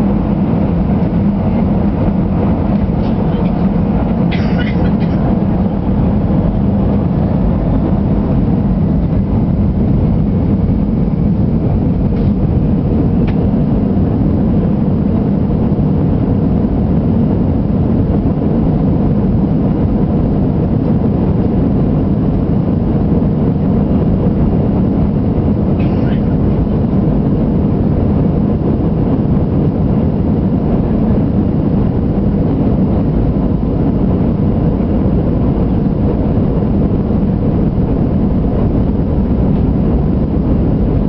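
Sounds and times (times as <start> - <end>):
jet engines rumbling in cabin: 0.0 - 41.0.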